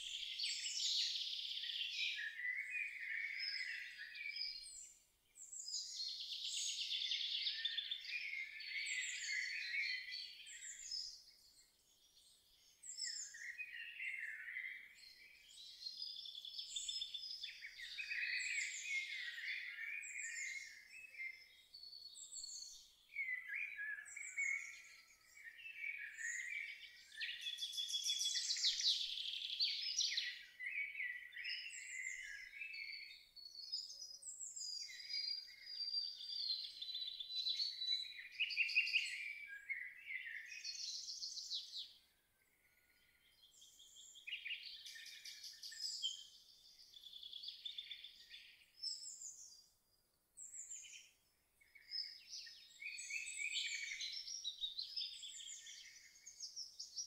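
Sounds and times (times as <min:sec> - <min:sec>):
songbird chorus: 0:00.0 - 0:57.0.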